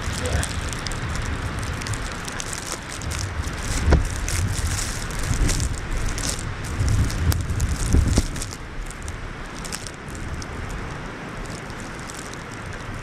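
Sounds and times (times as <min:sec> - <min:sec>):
scattered crackling: 0:00.0 - 0:13.0
storm wind gusting on microphone: 0:00.0 - 0:13.0.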